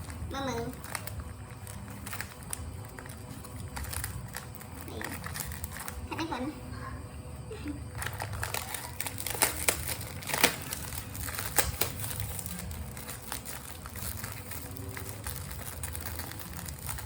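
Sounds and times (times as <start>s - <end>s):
snack packet crinkling: 0.0s - 6.1s, 7.9s - 17.0s.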